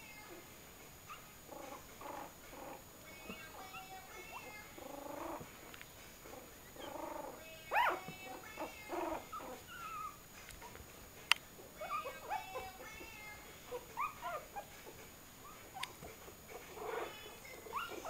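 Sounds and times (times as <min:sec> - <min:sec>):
puppies cooing and squeaking: 0:01.0 - 0:05.6, 0:06.2 - 0:10.8, 0:11.8 - 0:18.0.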